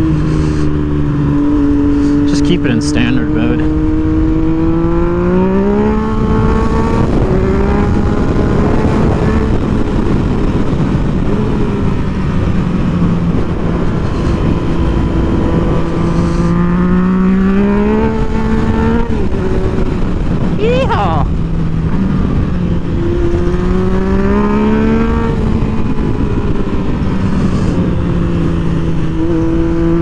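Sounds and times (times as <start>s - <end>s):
motorcycle engine accelerating: 0.0s - 30.0s
wind rush: 3.8s - 30.0s.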